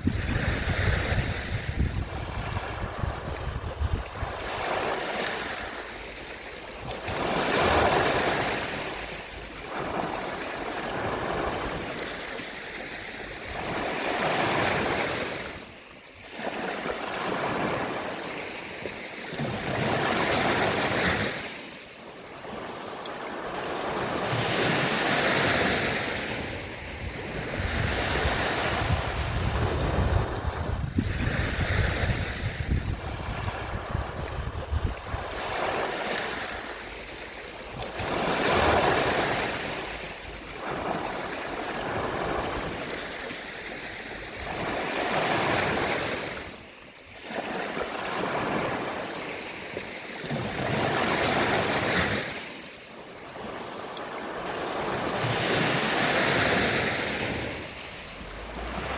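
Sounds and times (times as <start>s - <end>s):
wind rumble on microphone: 0.0s - 18.2s, 22.4s - 49.1s, 53.2s - 58.9s
sea waves washing onto shore: 0.0s - 58.9s.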